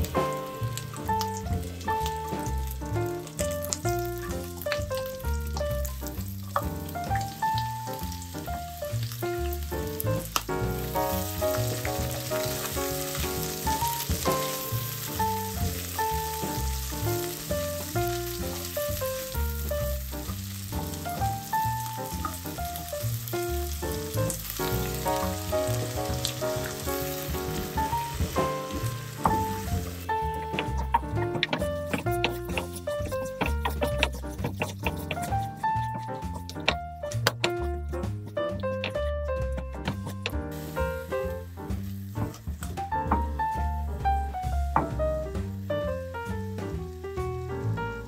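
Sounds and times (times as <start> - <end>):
food sizzling in oil: 0.0 - 47.0
spatula turning food: 0.8 - 42.8.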